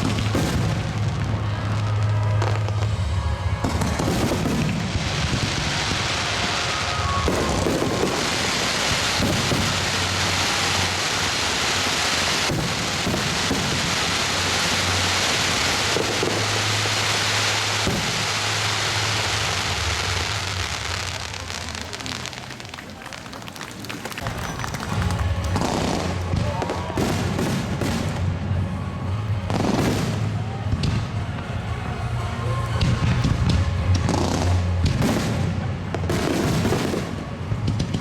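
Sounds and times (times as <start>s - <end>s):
fireworks rumbling booms: 0.0s - 31.8s, 32.5s - 38.0s
fireworks crackling: 0.0s - 38.0s.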